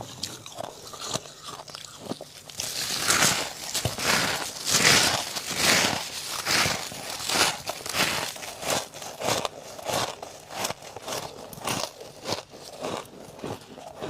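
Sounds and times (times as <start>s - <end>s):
freezer frost crunching: 0.0s - 14.0s.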